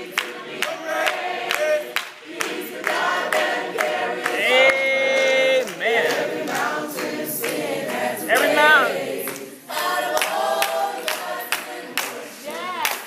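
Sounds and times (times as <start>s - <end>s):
group singing gospel: 0.0s - 13.0s.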